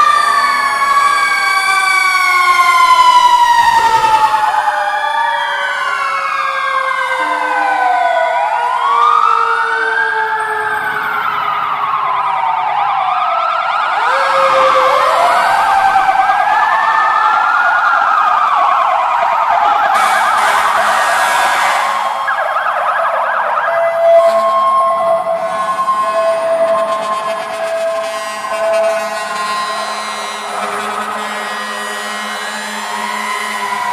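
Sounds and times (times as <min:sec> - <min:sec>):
fire engine sirens wailing: 0:00.0 - 0:33.9.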